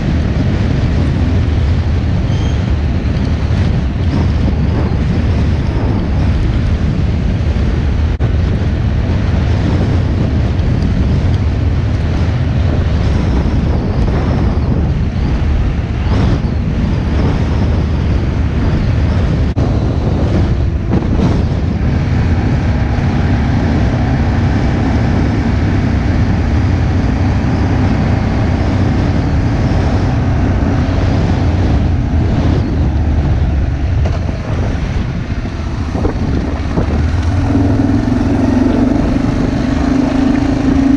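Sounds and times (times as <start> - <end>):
engine drone: 0.0 - 40.9
tyres and engine rumble: 0.0 - 40.9
wind noise on microphone: 0.0 - 40.9.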